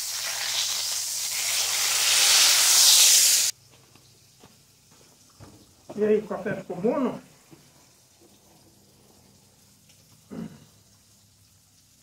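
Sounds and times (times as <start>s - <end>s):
food sizzling in a frying pan: 0.0s - 6.0s, 7.7s - 12.0s.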